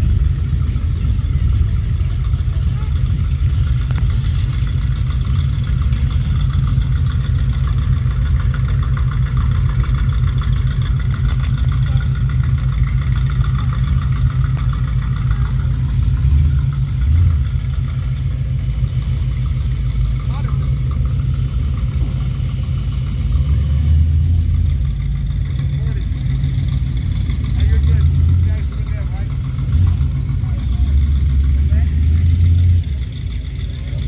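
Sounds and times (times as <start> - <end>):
car engine rumbling: 0.0 - 34.0.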